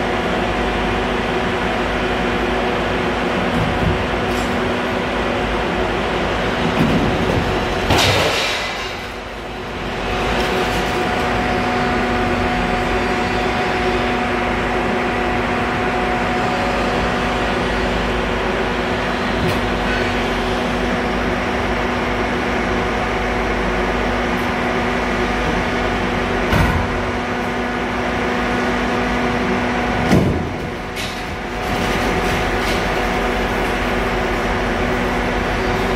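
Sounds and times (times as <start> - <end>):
excavator engine and hydraulics: 0.0 - 35.9.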